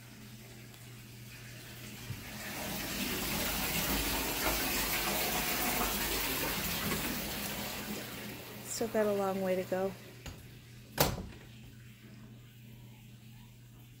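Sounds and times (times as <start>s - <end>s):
water running into bathtub: 0.0s - 12.7s.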